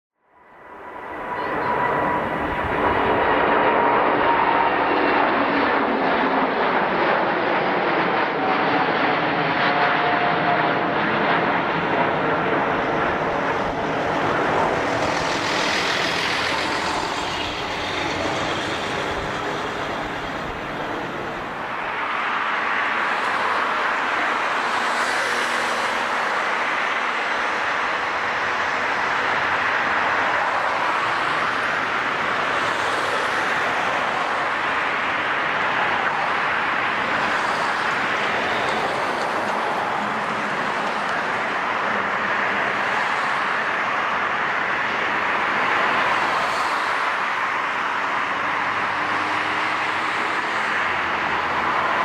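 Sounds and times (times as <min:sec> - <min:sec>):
jet airliner engines running: 0:00.4 - 0:52.0.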